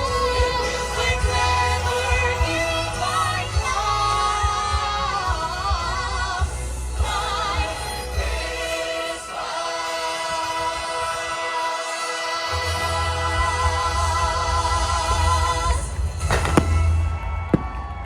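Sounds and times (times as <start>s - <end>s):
christmas pop song: 0.0s - 17.5s.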